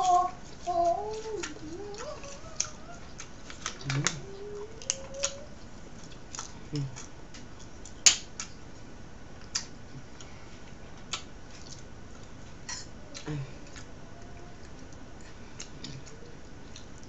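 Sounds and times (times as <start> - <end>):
mouth sounds of eating: 0.0 - 8.6, 9.4 - 17.0.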